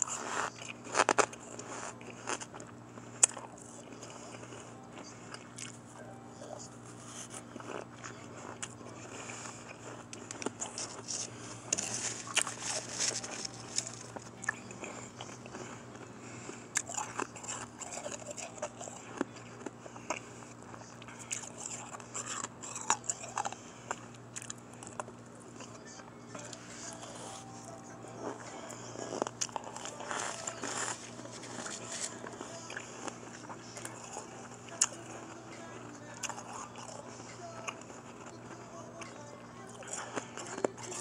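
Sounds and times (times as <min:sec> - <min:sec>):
chewing crunchy ice: 0:00.0 - 0:41.0.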